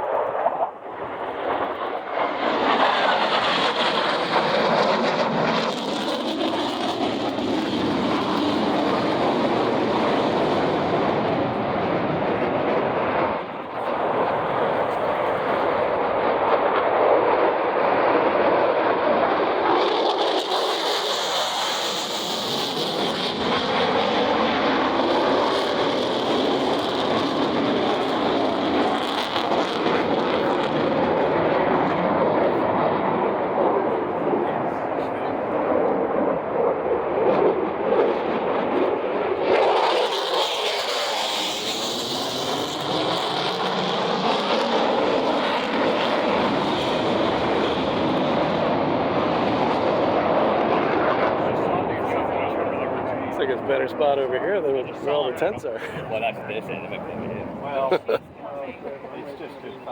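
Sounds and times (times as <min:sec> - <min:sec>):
jet engine in flight: 0:00.0 - 0:59.9.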